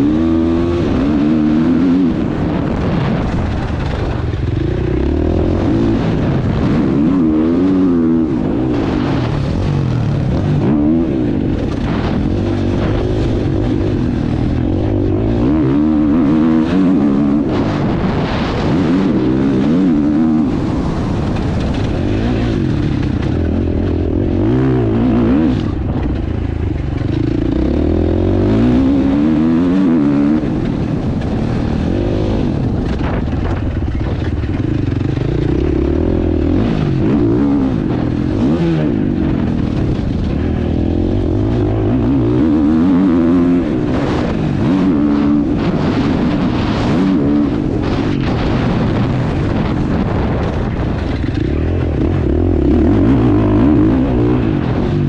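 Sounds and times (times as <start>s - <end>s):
motocross engine revving: 0.0s - 55.0s
wind noise on microphone: 0.0s - 55.0s.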